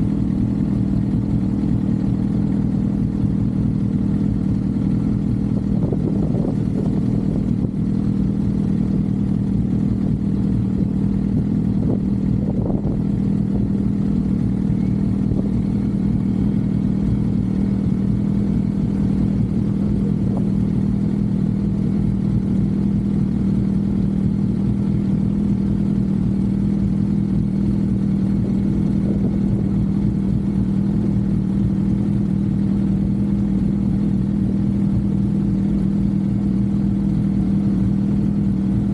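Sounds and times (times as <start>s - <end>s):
motorcycle engine cruising: 0.0s - 38.9s
wind and road rumble: 0.0s - 38.9s.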